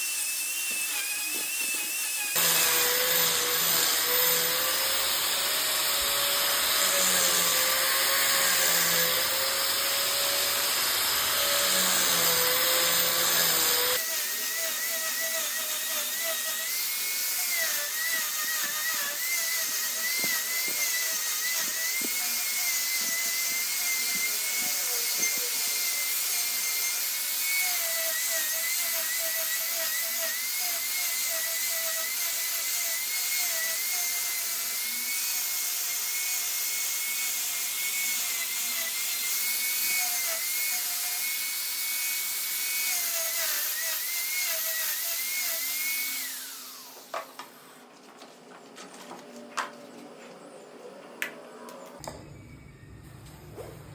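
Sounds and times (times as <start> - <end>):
power tool cutting wood: 0.0 - 47.8.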